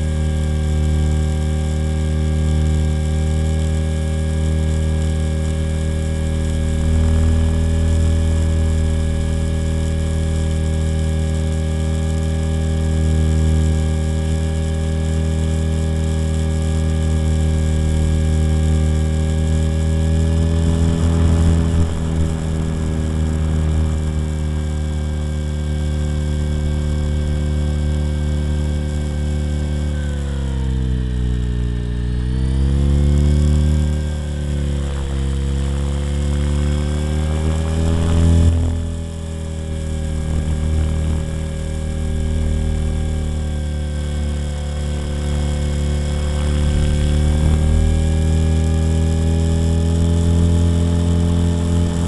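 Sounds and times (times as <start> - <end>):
rc helicopter rotor buzzing: 0.0 - 52.0.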